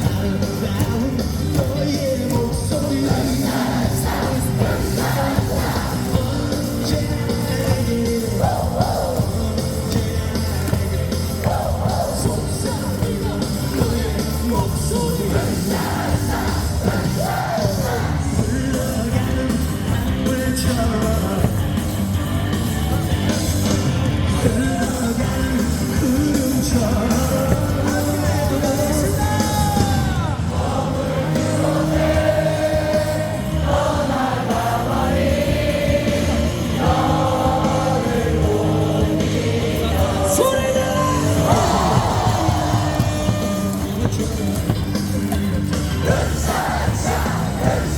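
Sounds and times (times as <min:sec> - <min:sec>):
cheering music over loudspeakers: 0:00.0 - 0:47.9.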